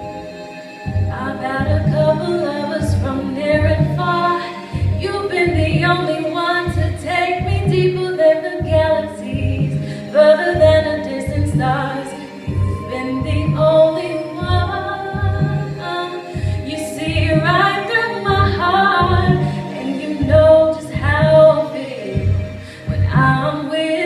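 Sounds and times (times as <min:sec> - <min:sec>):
pulsing low bass: 0:00.9 - 0:04.2, 0:04.8 - 0:06.1, 0:06.7 - 0:08.0, 0:08.6 - 0:15.8, 0:16.4 - 0:21.6, 0:22.2 - 0:23.5
woman singing into a microphone: 0:01.1 - 0:24.0.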